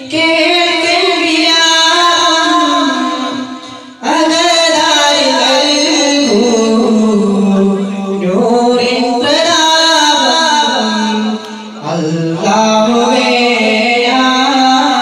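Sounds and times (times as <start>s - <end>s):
man singing through a microphone: 0.0s - 15.0s.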